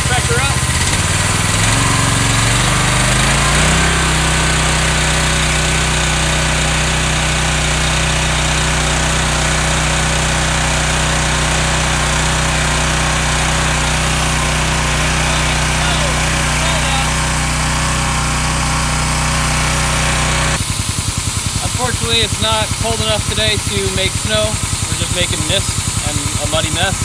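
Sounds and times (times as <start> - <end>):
pressure washer engine: 0.0 - 27.0.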